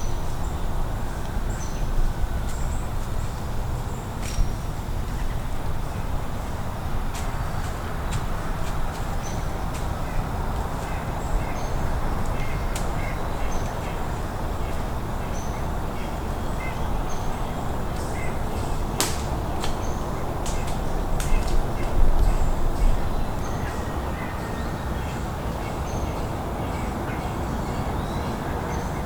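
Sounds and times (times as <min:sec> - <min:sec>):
steady low rumble: 0:00.0 - 0:28.5
small birds chirping: 0:00.0 - 0:29.0.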